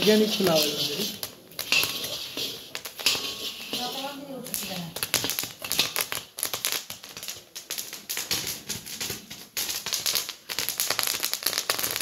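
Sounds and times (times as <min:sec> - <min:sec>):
popcorn popping in a pot: 0:00.0 - 0:12.0.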